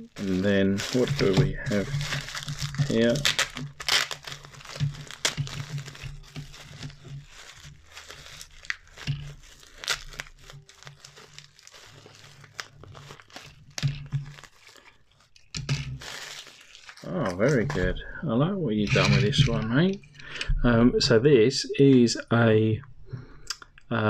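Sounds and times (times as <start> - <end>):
bubble wrap crinkling: 0.0 - 20.3.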